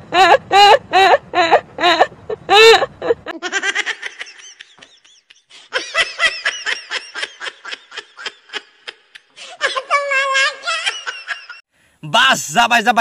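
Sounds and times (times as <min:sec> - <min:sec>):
person laughing: 0:00.1 - 0:11.6.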